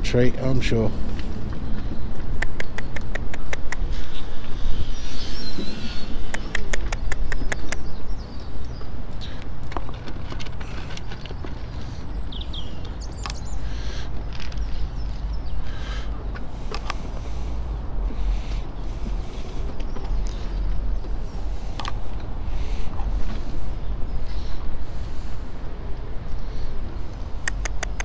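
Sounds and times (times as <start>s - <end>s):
steady low rumble: 0.0s - 28.0s
small birds chirping: 0.1s - 28.0s.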